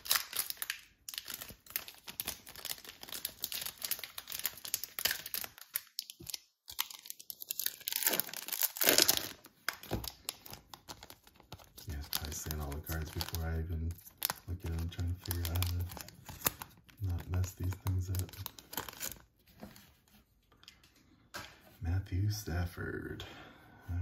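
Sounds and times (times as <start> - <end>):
foil wrapper crinkling and tearing: 0.0 - 19.3.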